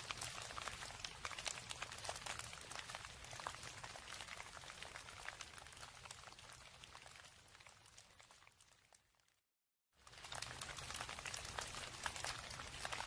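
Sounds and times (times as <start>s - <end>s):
rain drops pattering: 0.0s - 9.4s, 10.0s - 13.0s.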